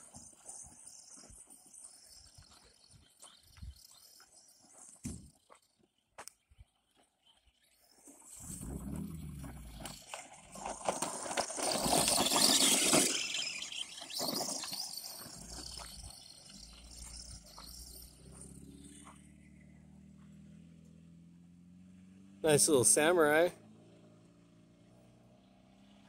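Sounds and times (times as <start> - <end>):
rc truck on gravel: 0.0 - 26.0.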